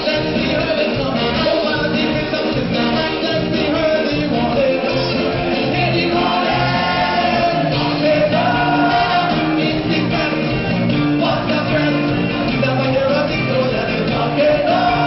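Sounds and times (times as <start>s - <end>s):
live band music: 0.0s - 15.0s
man singing lead: 0.0s - 15.0s
backing singers: 1.2s - 15.0s.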